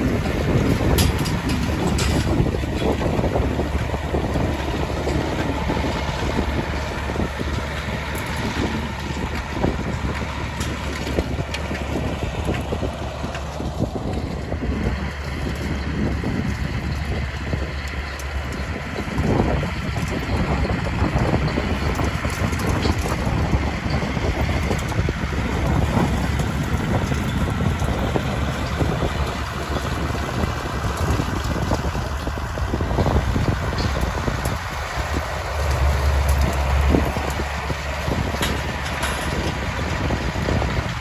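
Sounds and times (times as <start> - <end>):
tractor diesel engine running: 0.0 - 41.0
wind noise on microphone: 0.0 - 41.0.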